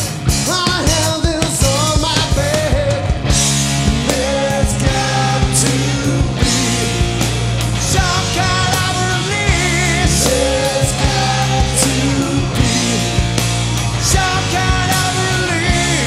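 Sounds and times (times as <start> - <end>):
bass guitar: 0.0 - 16.0
drum kit: 0.0 - 16.0
electric guitars: 0.0 - 16.0.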